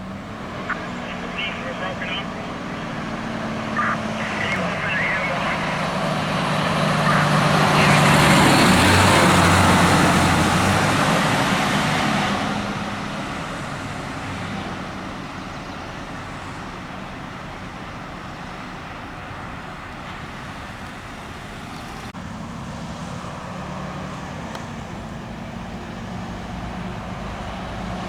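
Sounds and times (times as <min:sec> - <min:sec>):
fire truck driving past: 0:00.0 - 0:28.0
road traffic: 0:00.0 - 0:28.0.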